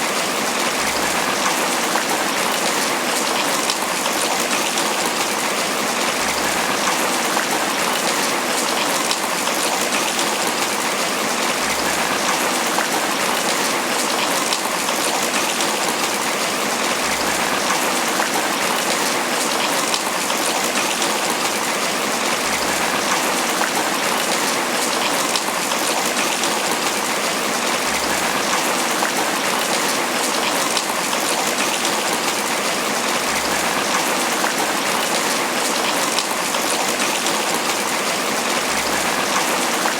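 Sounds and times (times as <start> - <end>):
heavy rain pattering on leaves: 0.0 - 39.9.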